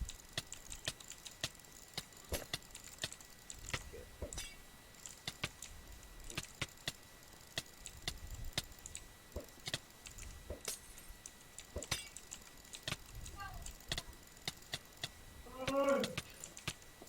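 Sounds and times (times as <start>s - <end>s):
faint high-pitched hum: 0.0s - 17.0s
sharp dry clicks: 0.0s - 17.0s.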